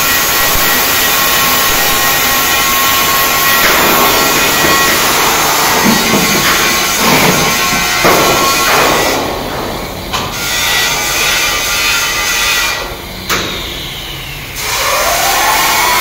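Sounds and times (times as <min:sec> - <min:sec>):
welding arc crackling hiss: 0:00.0 - 0:16.0.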